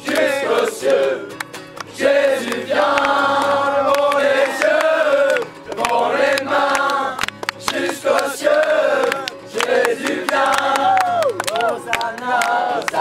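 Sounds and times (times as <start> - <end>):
young voices singing in unison: 0.0 - 1.3, 1.9 - 11.2, 12.1 - 13.0
hand claps: 0.0 - 13.0.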